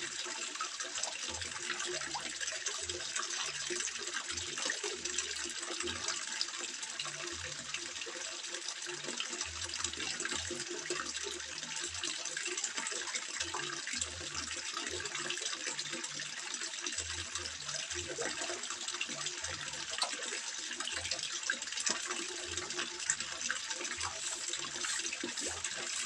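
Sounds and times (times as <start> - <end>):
water trickling into a pond: 0.0 - 26.0.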